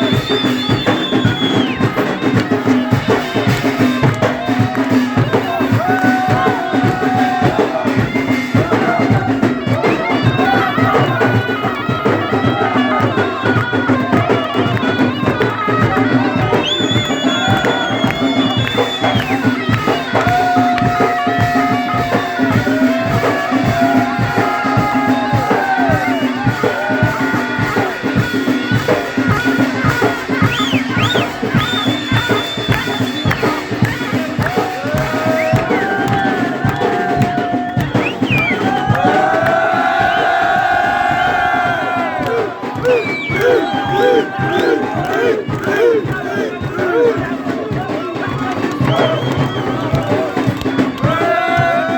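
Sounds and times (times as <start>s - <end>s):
fast drum beat: 0.0s - 51.9s
wind instrument melody: 0.0s - 51.9s.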